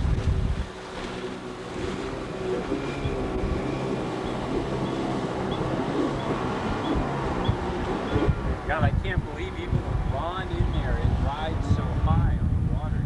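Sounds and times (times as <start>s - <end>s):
outboard motor running: 0.0s - 13.0s
wind buffeting microphone: 0.0s - 13.0s.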